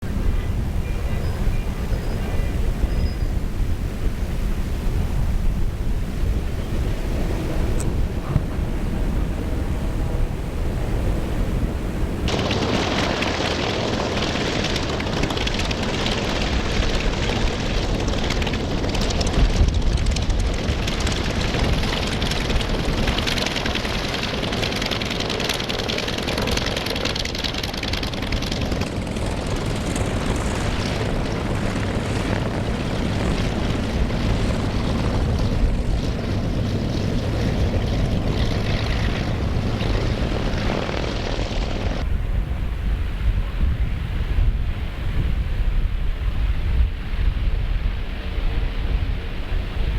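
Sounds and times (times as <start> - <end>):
propeller airplane engine drone: 0.0 - 49.9.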